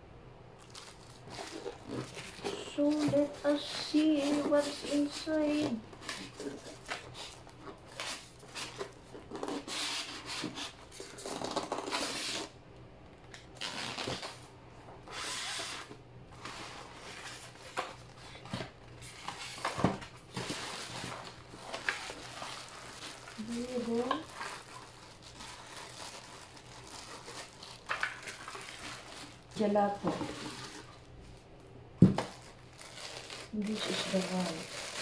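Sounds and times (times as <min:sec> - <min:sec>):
packaging rustling and scraping: 0:00.6 - 0:12.6, 0:13.4 - 0:35.0.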